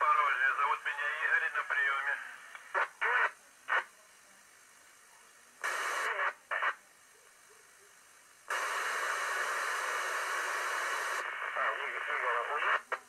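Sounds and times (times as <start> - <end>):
noisy radio signal bursts: 0.0 - 4.7, 5.6 - 13.0
radio static hiss: 0.0 - 13.0.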